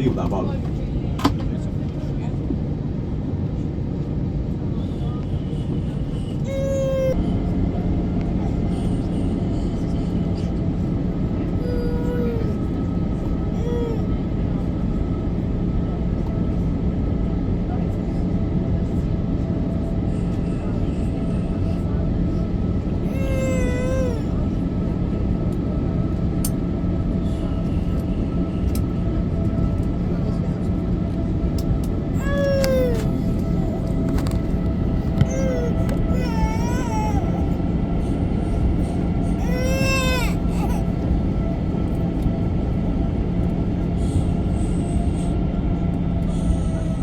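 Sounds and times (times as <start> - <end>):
aircraft cabin engine rumble: 0.0 - 47.0.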